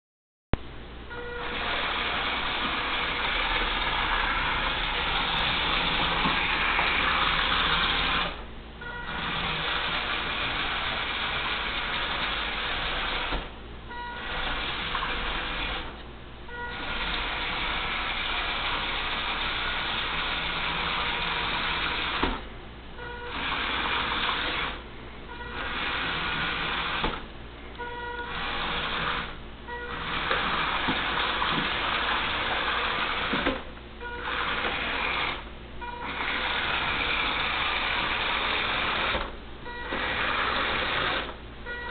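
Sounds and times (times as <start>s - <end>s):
robot vacuum motors whirring: 1.1s - 41.9s.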